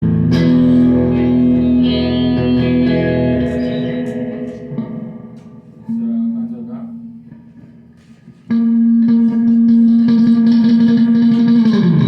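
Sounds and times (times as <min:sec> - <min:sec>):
electric guitar chord ringing: 0:00.0 - 0:07.6, 0:08.5 - 0:12.0.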